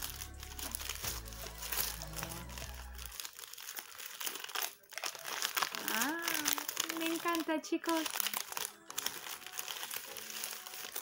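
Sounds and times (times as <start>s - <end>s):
background music: 0.0s - 11.0s
paper packet crinkling: 0.0s - 11.0s.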